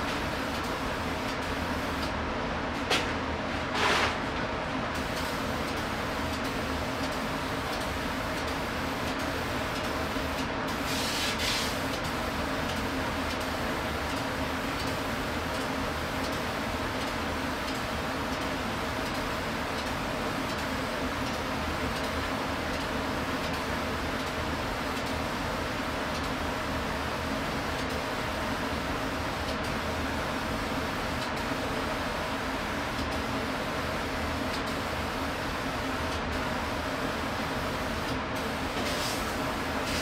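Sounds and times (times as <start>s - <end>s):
background hum and hiss: 0.0s - 40.0s.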